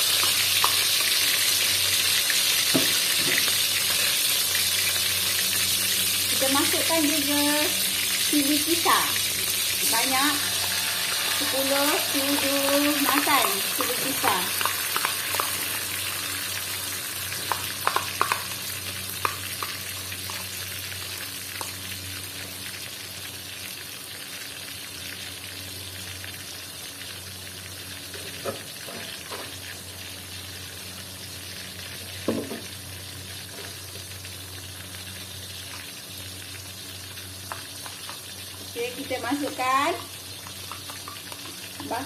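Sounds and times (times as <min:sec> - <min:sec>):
chili paste sizzling in hot oil: 0:00.0 - 0:42.0.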